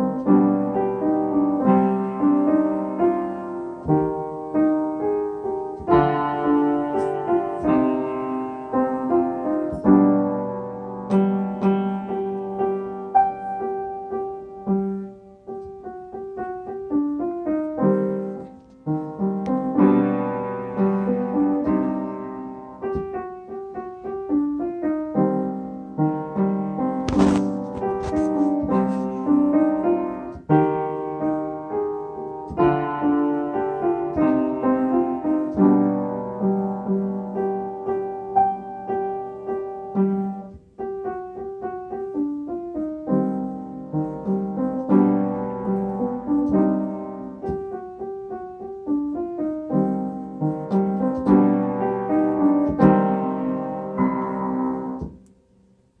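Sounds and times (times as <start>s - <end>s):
upright piano playing: 0.0s - 56.0s.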